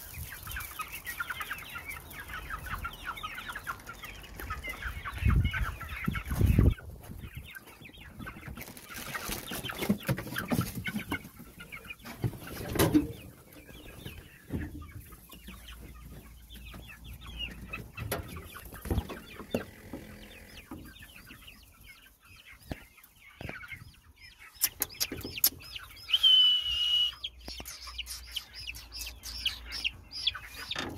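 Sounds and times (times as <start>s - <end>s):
chicks peeping: 0.0s - 30.9s.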